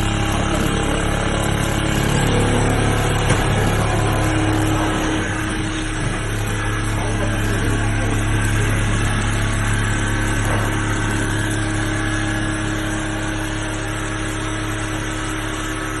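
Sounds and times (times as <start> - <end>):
sewing machine humming: 0.0 - 16.0.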